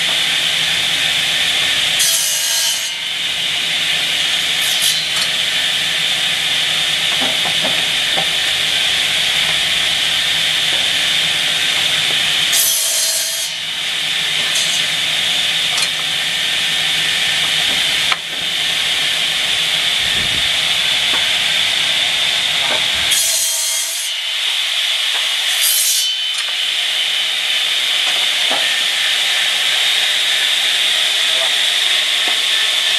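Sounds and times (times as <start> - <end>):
circular saw whining: 0.0 - 32.9
saw blades cutting wood: 0.0 - 32.9.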